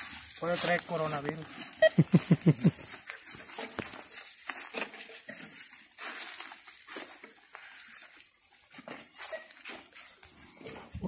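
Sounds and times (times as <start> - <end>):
footsteps crunching on dirt: 0.0 - 11.0
rustling through dry vegetation: 0.0 - 11.0.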